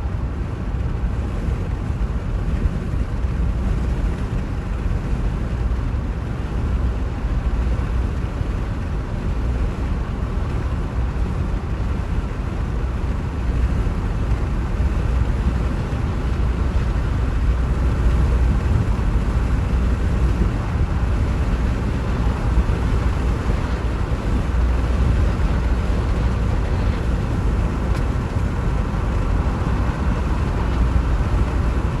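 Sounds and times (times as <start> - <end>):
train rumble: 0.0 - 32.0.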